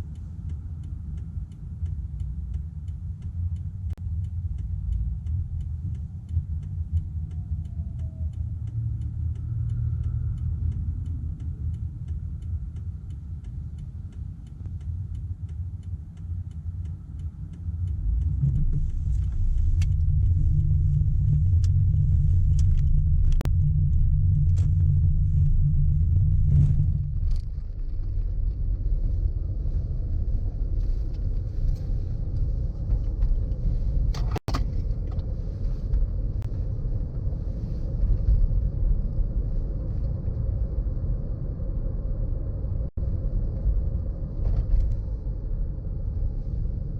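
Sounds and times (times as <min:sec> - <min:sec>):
car road rumble: 0:00.0 - 0:46.9.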